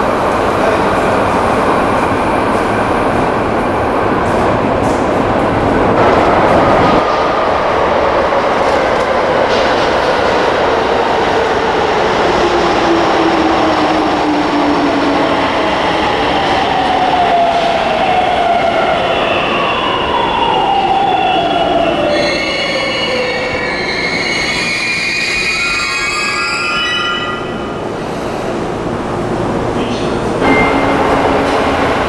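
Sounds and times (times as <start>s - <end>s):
subway train braking: 0.0s - 32.0s.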